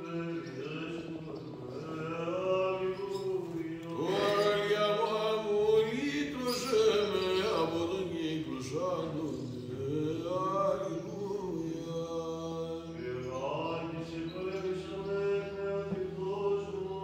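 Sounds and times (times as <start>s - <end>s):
voices chanting slow melody: 0.0s - 17.0s.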